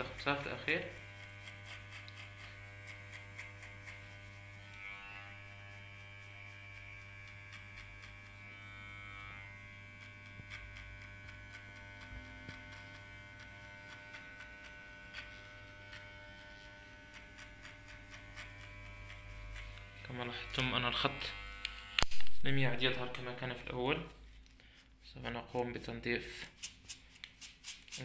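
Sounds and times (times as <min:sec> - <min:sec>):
electric hair clipper humming: 0:00.0 - 0:23.7.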